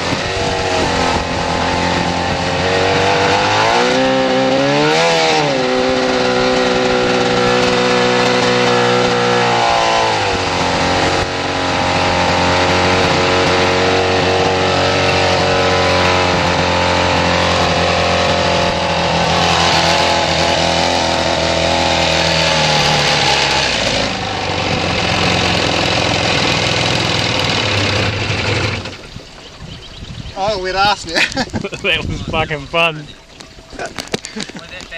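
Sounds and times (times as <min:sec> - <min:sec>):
jet ski engine running: 0:00.0 - 0:34.9.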